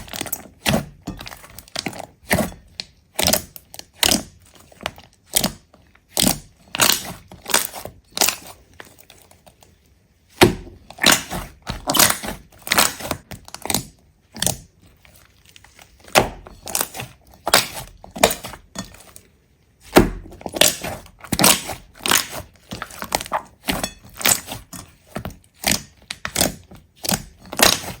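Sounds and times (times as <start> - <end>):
brittle cracks and crunches: 0.0 - 9.6, 10.4 - 19.3, 19.9 - 28.0.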